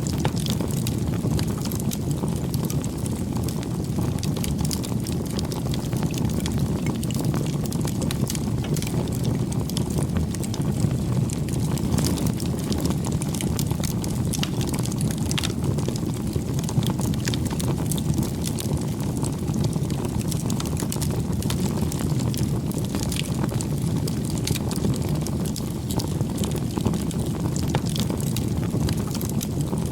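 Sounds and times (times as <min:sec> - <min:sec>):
burning wood crackling and popping: 0:00.0 - 0:29.9
campfire flames rumbling: 0:00.0 - 0:29.9.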